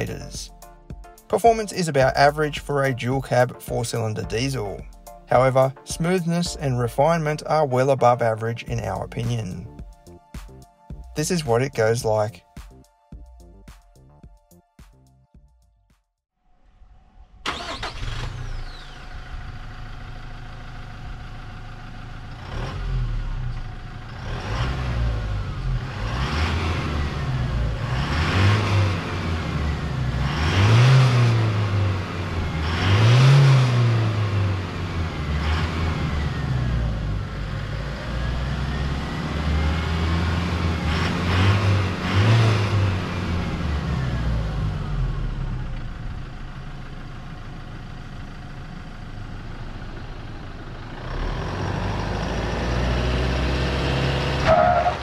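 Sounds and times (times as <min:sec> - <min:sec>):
diesel engine revving: 0:00.0 - 0:12.3, 0:17.4 - 0:55.0.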